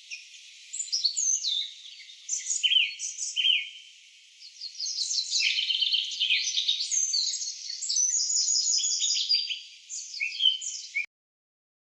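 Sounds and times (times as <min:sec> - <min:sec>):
songbirds chirping and trilling: 0:00.0 - 0:11.1.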